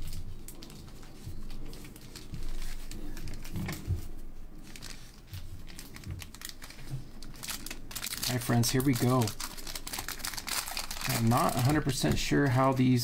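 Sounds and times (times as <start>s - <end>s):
foil wrappers rustling: 0.0s - 13.0s.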